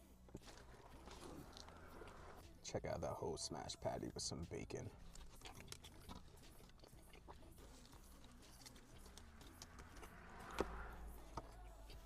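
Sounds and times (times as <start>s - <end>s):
person chewing food: 0.0s - 2.6s, 4.9s - 12.0s.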